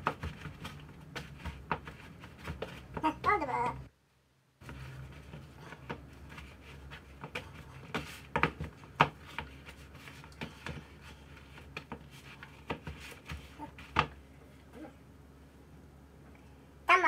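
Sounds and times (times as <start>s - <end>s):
hands kneading dough: 0.0s - 3.9s, 4.6s - 14.9s.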